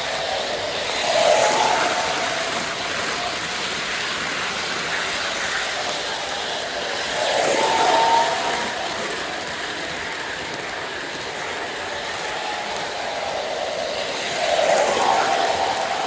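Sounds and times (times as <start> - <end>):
model train wheels rolling: 0.0 - 16.0.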